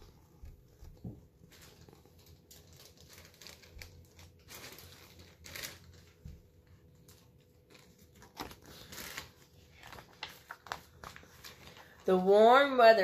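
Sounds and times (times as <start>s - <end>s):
paper book rustling: 0.0s - 12.8s.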